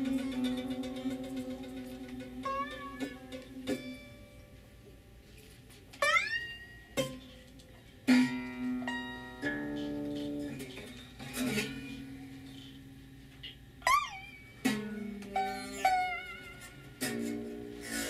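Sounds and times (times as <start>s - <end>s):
lap guitar ringing notes: 0.0s - 5.0s, 6.0s - 18.0s.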